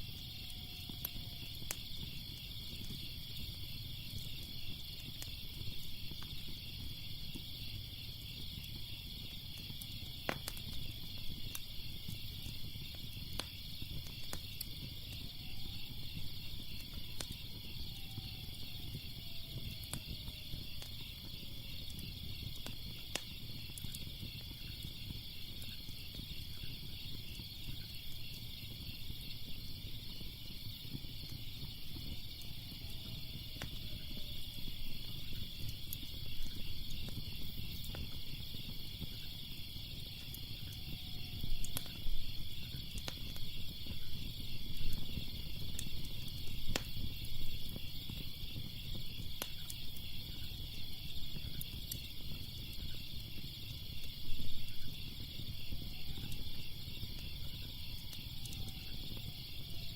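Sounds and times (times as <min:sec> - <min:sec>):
crickets chirping: 0:00.0 - 0:59.9
wood fire crackling and popping: 0:00.0 - 0:59.9.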